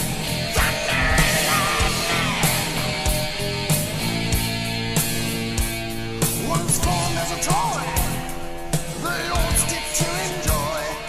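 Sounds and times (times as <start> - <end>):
heavy metal band playing: 0.0 - 11.0.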